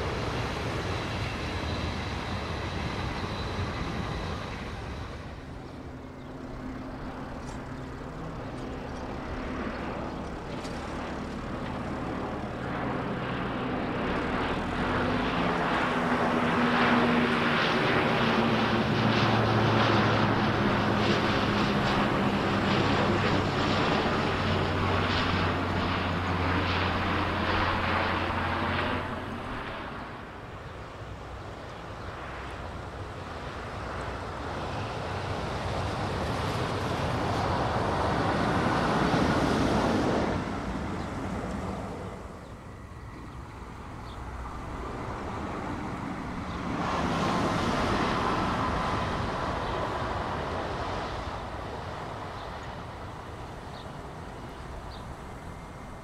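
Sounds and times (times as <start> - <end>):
electric trains passing: 0.0 - 31.5, 32.3 - 56.0
turboprop plane droning overhead: 0.0 - 56.0.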